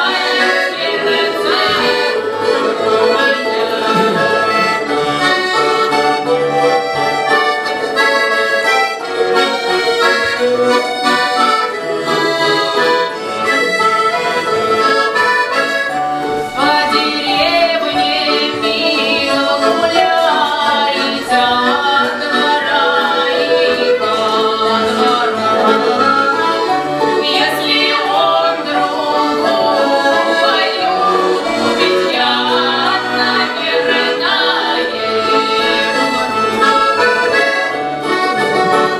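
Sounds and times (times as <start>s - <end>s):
accordion playing lively folk tune: 0.0s - 38.9s
folk-style singing voices: 0.0s - 38.9s.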